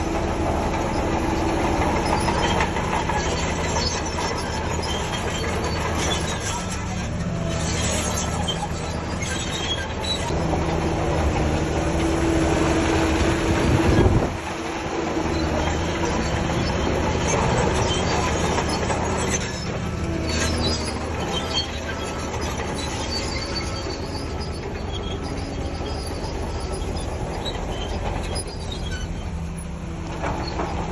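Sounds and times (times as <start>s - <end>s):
bulldozer diesel engine running: 0.0s - 30.9s
steel tracks clanking and squealing: 0.0s - 30.9s.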